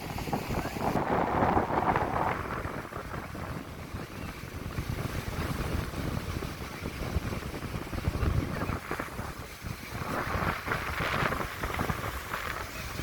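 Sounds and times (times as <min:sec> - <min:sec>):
hiss of moving water: 0:00.0 - 0:13.0
wind buffeting microphone: 0:00.0 - 0:13.0.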